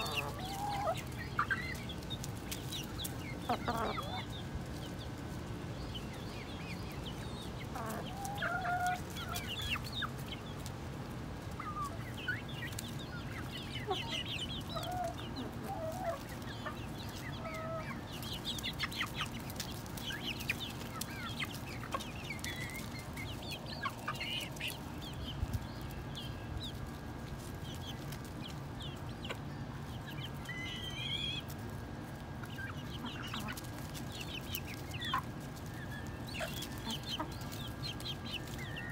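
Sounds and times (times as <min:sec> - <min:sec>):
chicks clucking and chirping: 0:00.0 - 0:38.9.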